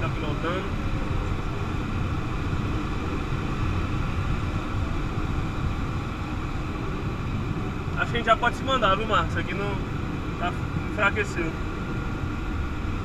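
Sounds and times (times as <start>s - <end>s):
airflow rushing around glider: 0.0s - 13.0s.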